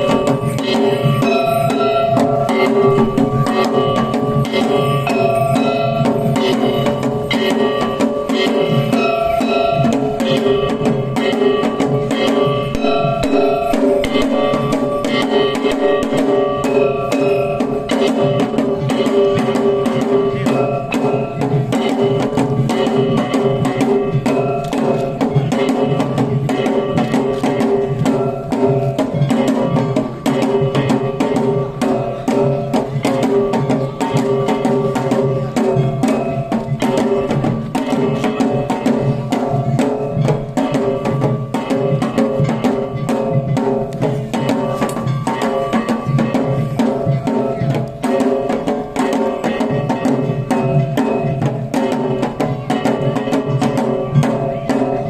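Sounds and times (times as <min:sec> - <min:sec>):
rapid drumming: 0:00.0 - 0:55.0
sustained ringing tones: 0:00.0 - 0:55.0.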